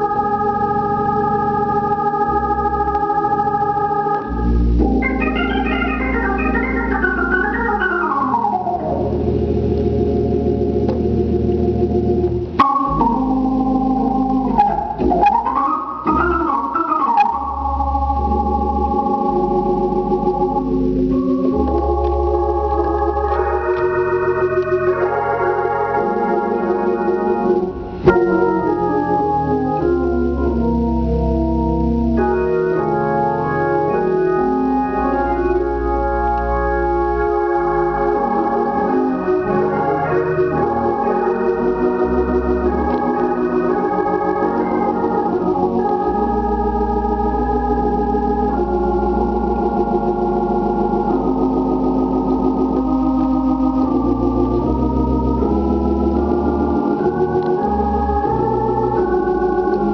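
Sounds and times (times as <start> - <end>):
organ playing chords: 0.0 - 59.9.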